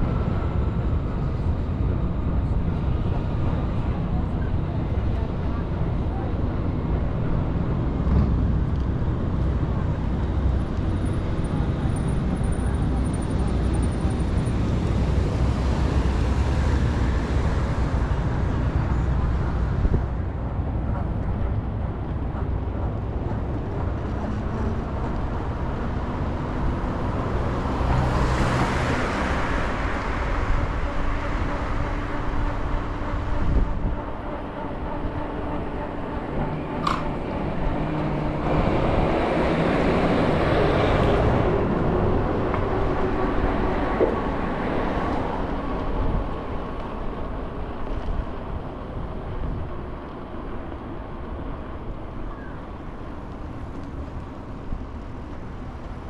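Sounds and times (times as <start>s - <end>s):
low road rumble: 0.0s - 56.0s
vehicles passing: 0.0s - 56.0s.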